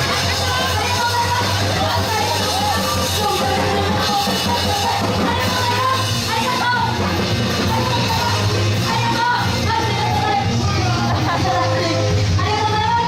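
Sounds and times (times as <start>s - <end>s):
live pop-rock music: 0.0s - 13.0s
voices singing and yelling: 0.0s - 13.0s.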